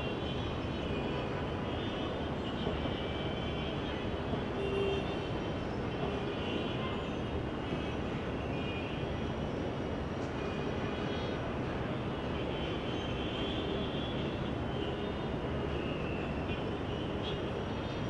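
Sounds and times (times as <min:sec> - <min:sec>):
distant traffic: 0:00.0 - 0:18.0
wind: 0:00.0 - 0:18.0.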